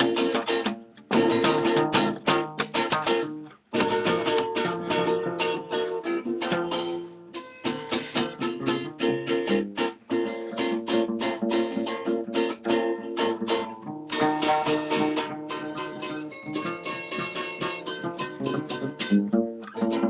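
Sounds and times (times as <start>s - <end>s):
acoustic guitar strummed: 0.0s - 20.0s
plucked bass guitar: 0.0s - 20.0s.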